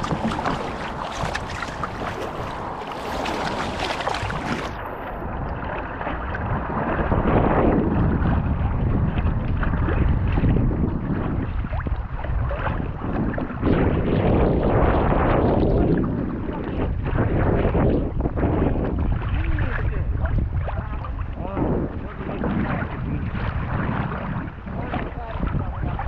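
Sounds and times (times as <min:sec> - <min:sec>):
water washing around paddled kayak: 0:00.0 - 0:26.0
wind buffeting microphone: 0:00.0 - 0:26.0.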